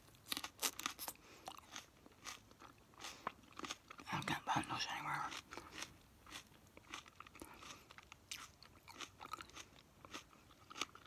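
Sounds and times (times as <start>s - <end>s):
chewing crunches: 0.1s - 11.0s.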